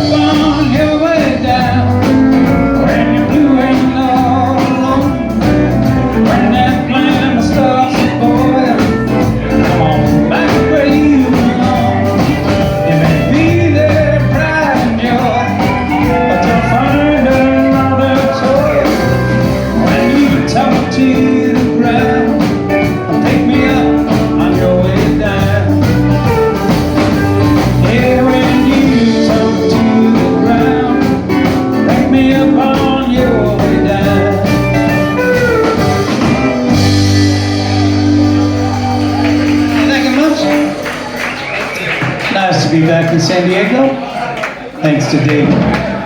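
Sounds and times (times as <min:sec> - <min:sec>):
electric guitar lines: 0:00.0 - 0:43.2
live country band: 0:00.0 - 0:46.0.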